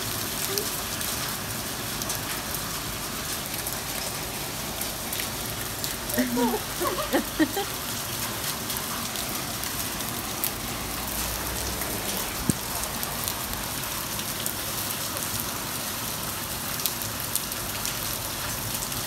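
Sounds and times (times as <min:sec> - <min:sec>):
hail and rain on paving: 0:00.0 - 0:19.0.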